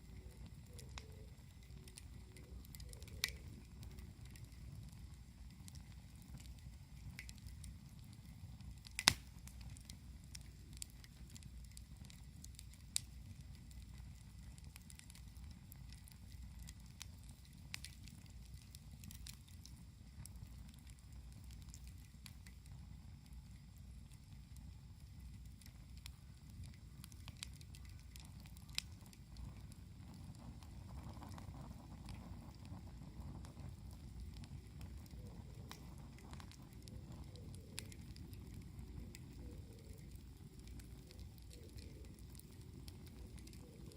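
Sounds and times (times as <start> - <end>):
campfire crackling: 0.0 - 43.9
low steady rumble: 0.0 - 43.9
sharp fire pops: 0.4 - 43.9.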